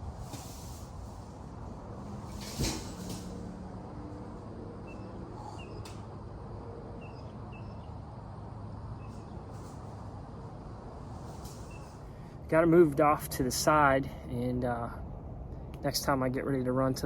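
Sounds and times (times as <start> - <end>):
low outdoor background hum: 0.0 - 17.0.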